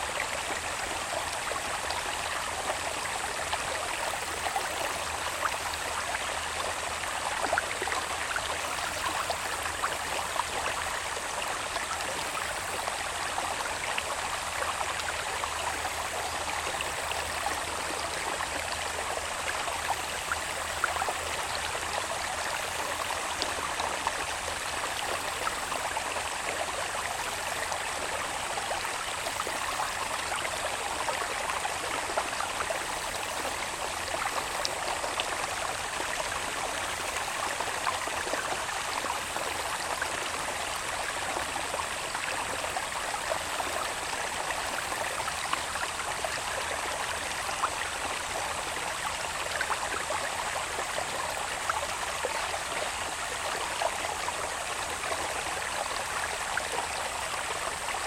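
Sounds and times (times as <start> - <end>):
water babbling in channel: 0.0 - 58.0.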